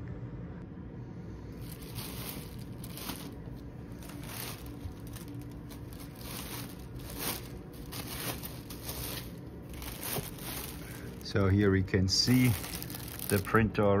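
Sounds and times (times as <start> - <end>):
plastic wrapper crinkling: 1.6 - 13.8.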